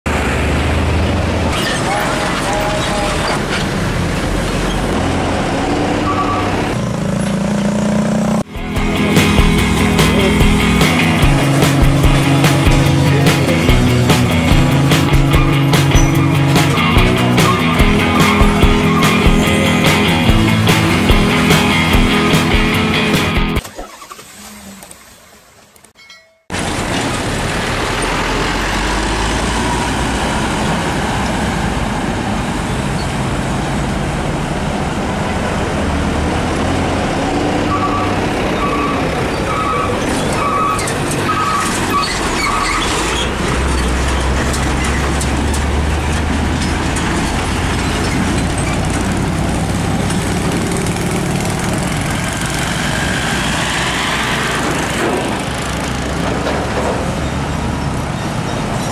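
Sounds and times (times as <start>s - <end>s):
trucks and traffic passing: 0.0s - 58.9s
tyre and road noise: 0.0s - 58.9s.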